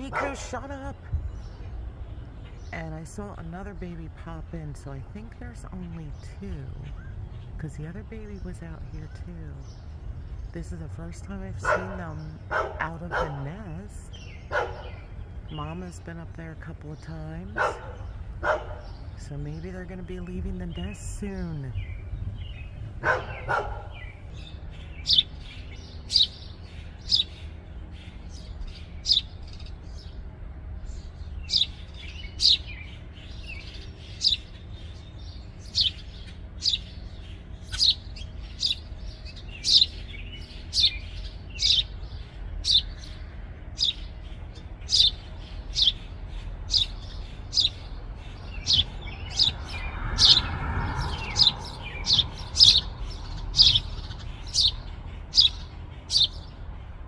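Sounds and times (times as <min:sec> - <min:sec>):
low background rumble: 0:00.0 - 0:57.0
sparrow fledglings chirping: 0:00.0 - 0:57.0.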